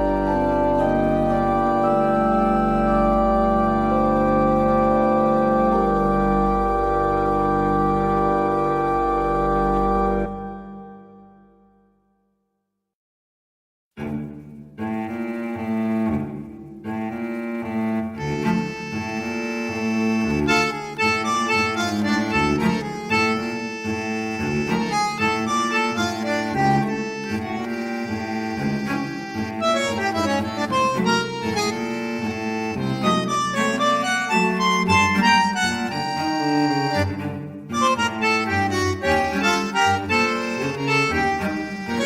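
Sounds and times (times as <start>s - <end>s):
accordion music with bass drone: 0.0s - 11.7s, 14.9s - 42.0s.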